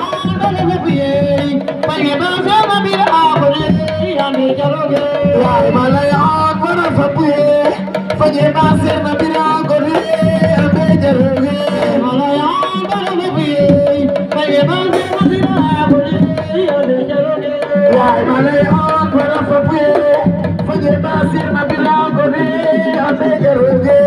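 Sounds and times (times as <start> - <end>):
hand drums fast rhythm: 0.0 - 24.0
person singing: 0.0 - 24.0.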